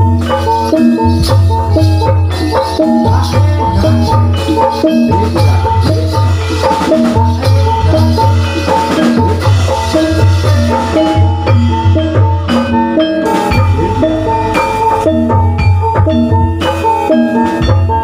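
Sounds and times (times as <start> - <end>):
drum beats: 0.0 - 18.0
metallophones playing: 0.0 - 18.0.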